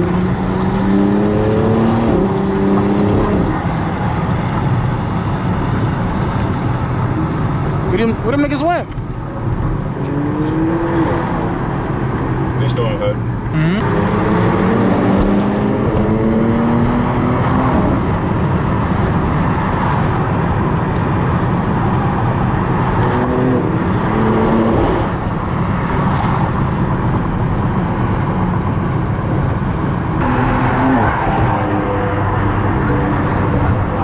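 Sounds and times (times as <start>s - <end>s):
car engine accelerating hard: 0.0s - 8.3s, 9.5s - 34.0s
road and wind noise: 0.0s - 34.0s.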